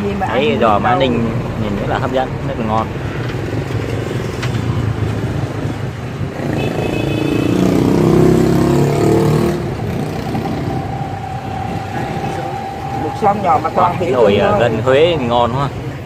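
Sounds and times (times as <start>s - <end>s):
street traffic rumble: 0.0s - 16.0s
vehicle passing: 0.0s - 16.0s.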